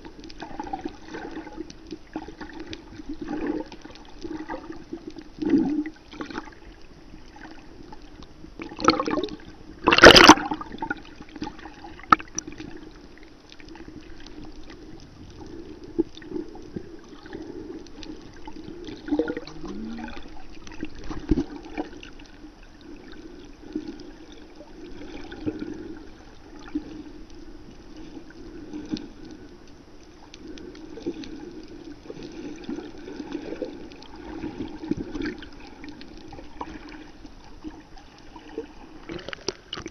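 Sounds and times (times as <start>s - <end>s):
underwater sloshing and bubbling: 0.0s - 39.9s.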